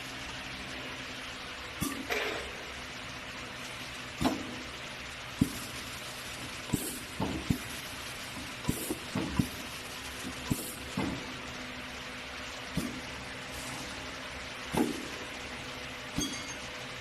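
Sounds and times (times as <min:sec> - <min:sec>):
boring machine hiss and hum: 0:00.0 - 0:17.0.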